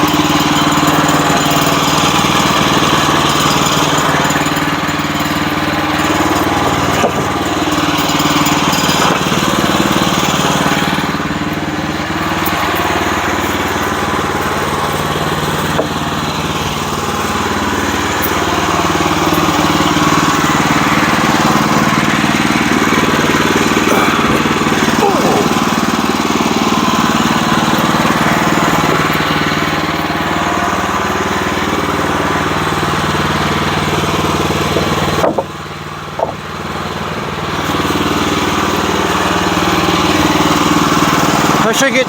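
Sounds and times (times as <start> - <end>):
small gasoline engine running: 0.0 - 42.0.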